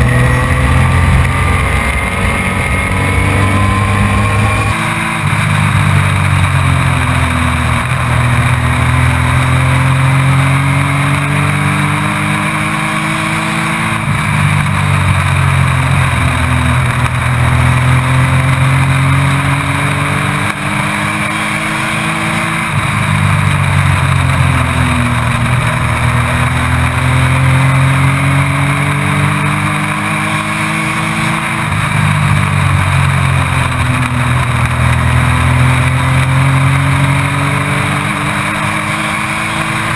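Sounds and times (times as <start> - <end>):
truck engine accelerating: 0.0 - 39.9.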